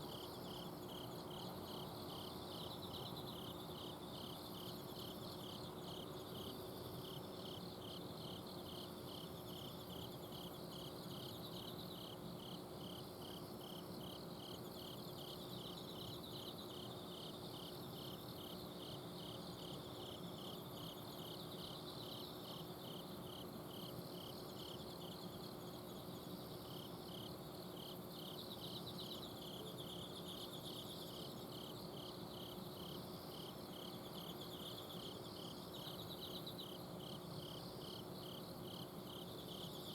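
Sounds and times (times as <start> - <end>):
crickets chirping: 0.0 - 39.9
high faint insect trills: 0.0 - 39.9.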